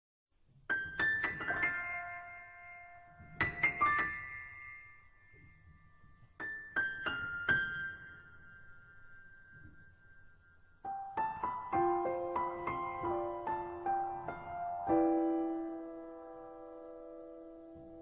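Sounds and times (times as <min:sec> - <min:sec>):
piano music: 0:00.7 - 0:18.0.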